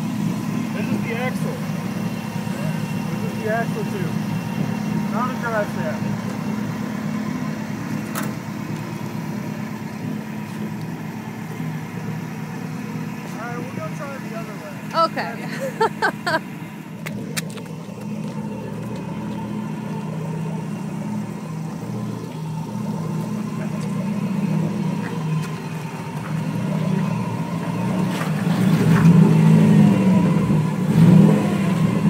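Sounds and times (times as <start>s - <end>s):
pickup truck engine running: 0.0s - 32.0s.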